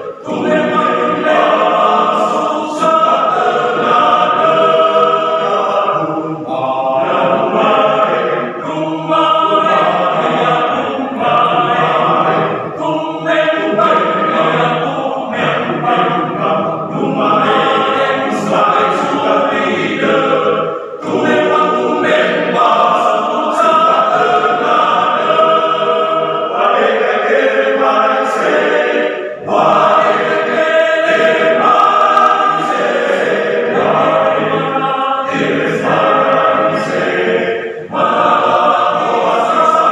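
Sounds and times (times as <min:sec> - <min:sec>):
men's choir singing: 0:00.0 - 0:39.9.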